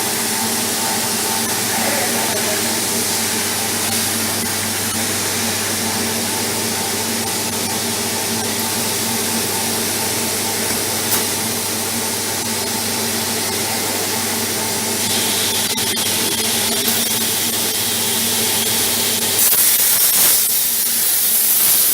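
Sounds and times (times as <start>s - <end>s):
plasma cutting torch hissing: 0.0s - 12.0s, 12.7s - 21.9s.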